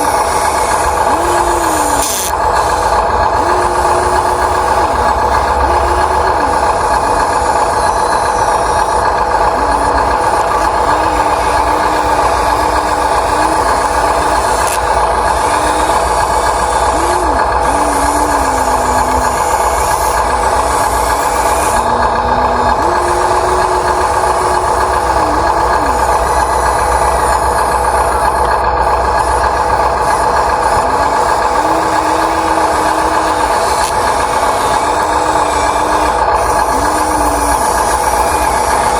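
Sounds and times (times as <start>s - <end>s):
low hum: 0.0s - 38.9s
toy excavator mechanical whine: 0.0s - 38.9s.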